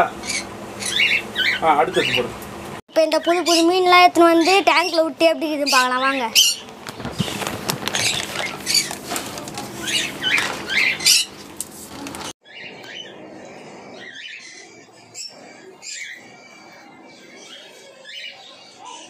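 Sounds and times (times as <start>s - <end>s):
birds chirping and squawking: 0.0s - 19.0s.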